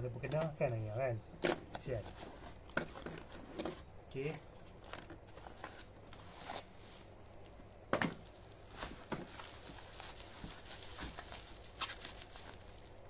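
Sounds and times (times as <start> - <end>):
bubble wrap crinkling: 1.5 - 13.0.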